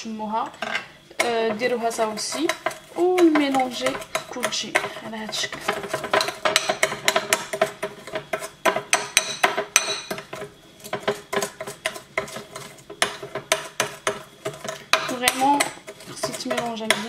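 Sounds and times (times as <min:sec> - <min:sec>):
metal spoon scraping a bowl: 0:00.6 - 0:17.0.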